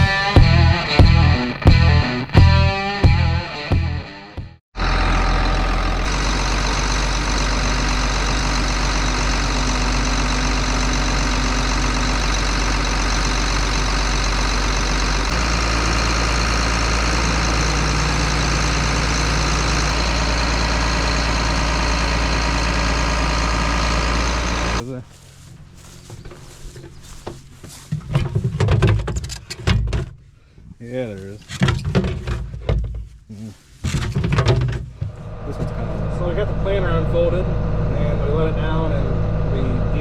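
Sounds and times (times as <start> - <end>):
heavy vehicle engine running: 0.0 - 28.0, 35.0 - 40.0.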